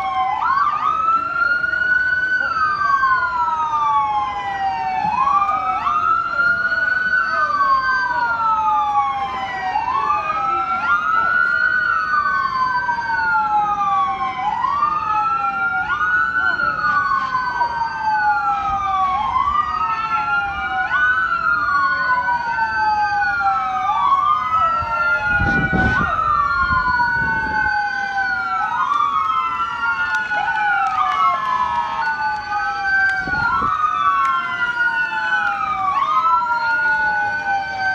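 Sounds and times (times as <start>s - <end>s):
police sirens wailing: 0.0s - 37.9s.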